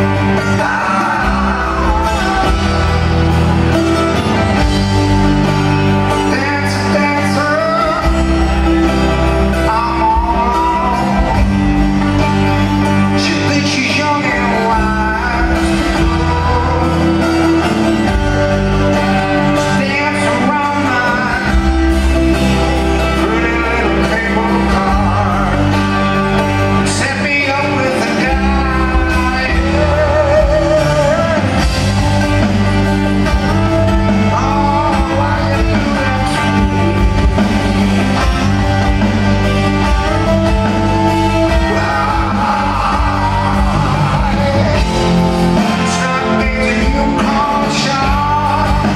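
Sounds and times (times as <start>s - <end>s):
lead vocal singing: 0.0s - 48.9s
live rock band: 0.0s - 48.9s.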